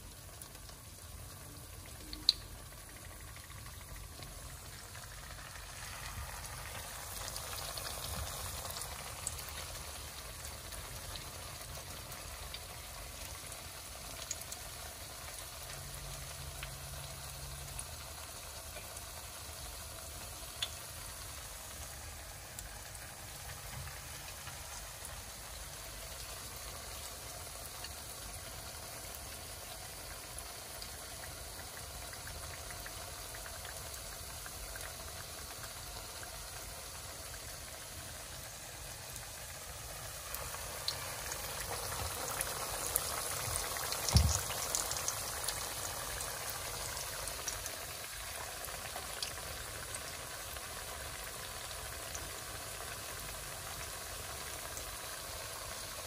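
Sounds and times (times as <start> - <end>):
sizzling bubbling hiss: 0.0 - 56.0.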